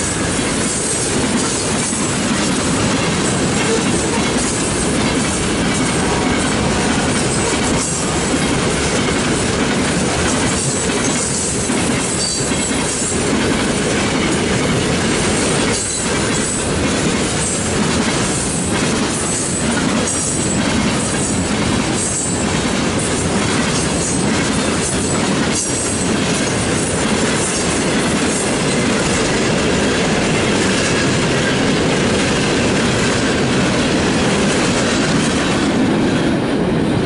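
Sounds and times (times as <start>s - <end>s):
wheels clicking over rail joints: 0.0s - 36.1s
train wheels rumbling on rail: 0.0s - 37.0s.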